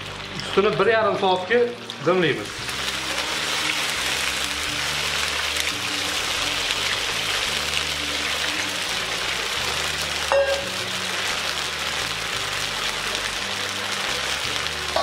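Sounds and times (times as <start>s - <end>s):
water sizzling in hot fat: 0.0s - 15.0s.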